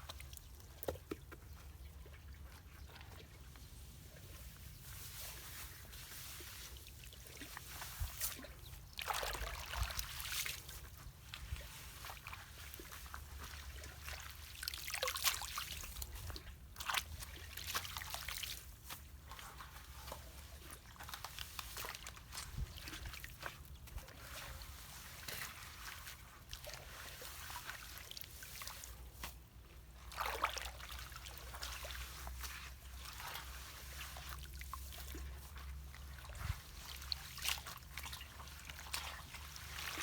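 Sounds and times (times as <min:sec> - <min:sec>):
water sloshing and splashing: 0:00.0 - 0:40.0
water trickle: 0:05.9 - 0:28.8, 0:29.9 - 0:40.0.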